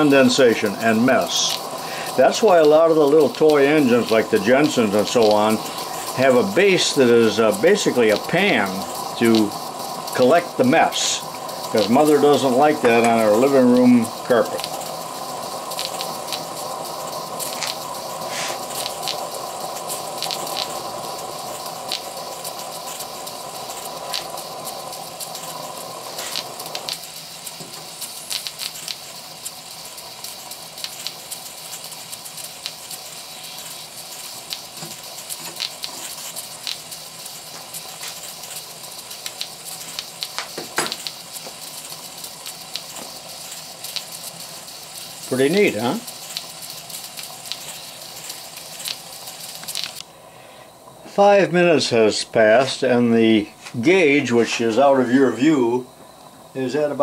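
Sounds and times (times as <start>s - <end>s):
steam engine hissing: 0.0s - 57.0s
steam spitting and crackling: 0.0s - 57.0s.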